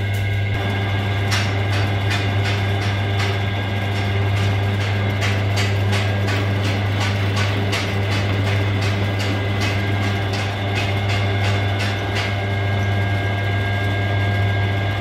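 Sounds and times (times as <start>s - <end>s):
metal lathe motor hum: 0.0s - 15.0s.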